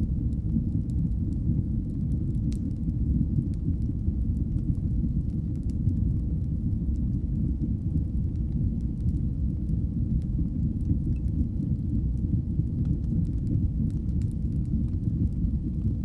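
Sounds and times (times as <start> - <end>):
fire crackles: 0.0 - 16.0
fire roaring in fireplace: 0.0 - 16.0.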